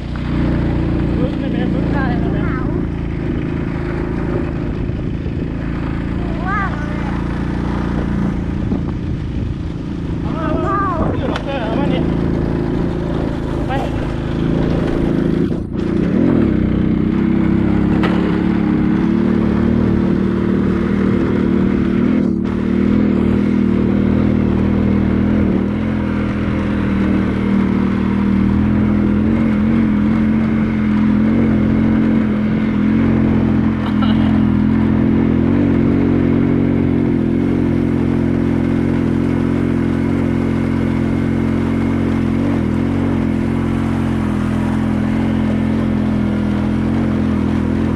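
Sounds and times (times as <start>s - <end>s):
small engine running steadily: 0.0s - 47.9s.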